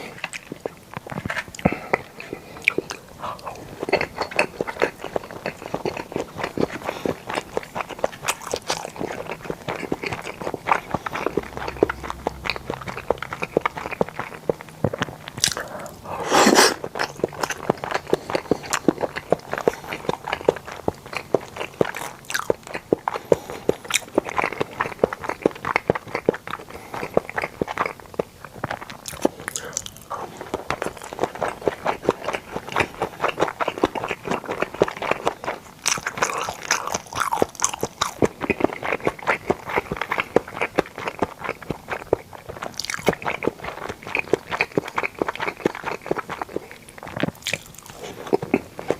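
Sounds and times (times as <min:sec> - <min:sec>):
chewing and biting food: 0:00.0 - 0:48.9.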